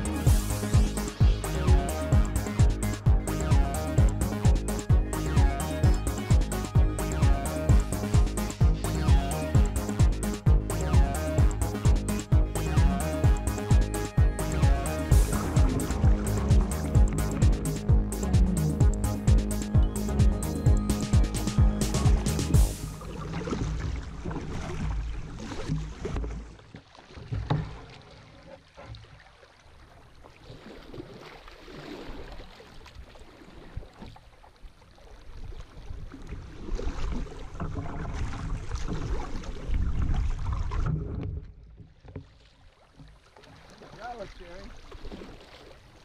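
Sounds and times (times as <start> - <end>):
paddle splashing in water: 0.0 - 20.2, 21.1 - 46.0
water rushing past hull: 0.0 - 46.0.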